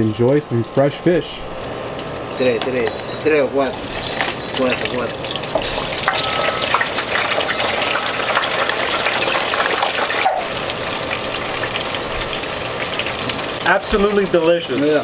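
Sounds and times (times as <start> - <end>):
oil sizzling in fryer: 0.0 - 15.0.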